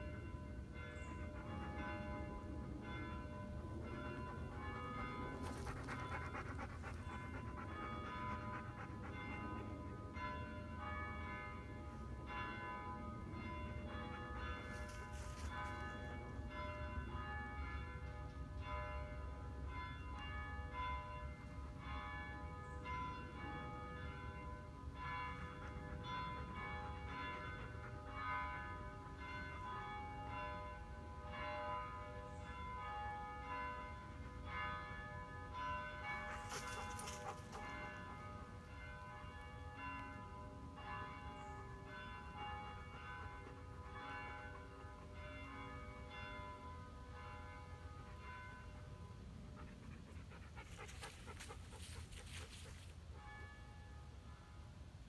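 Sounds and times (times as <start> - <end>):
church bells ringing a peal: 0.0 - 55.0.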